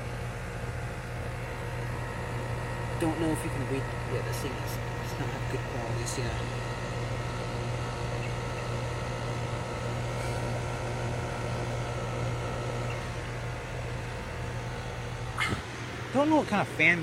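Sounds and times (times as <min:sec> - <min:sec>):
compressor humming: 0:00.0 - 0:17.0
condenser fan air rush: 0:00.0 - 0:17.0.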